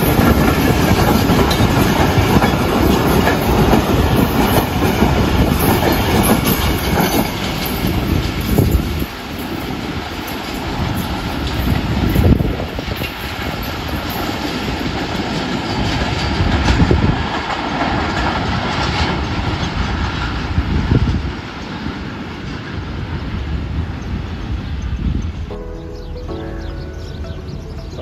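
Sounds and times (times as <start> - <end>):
train wheels clattering over rail joints: 0.0 - 23.3.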